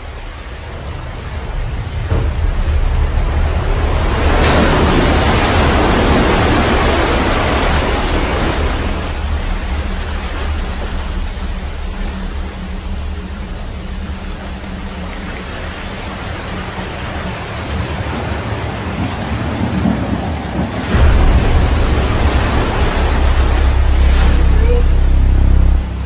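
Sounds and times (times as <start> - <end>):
deep rumble: 0.0 - 26.0
wind rain and surf rushing: 0.0 - 26.0.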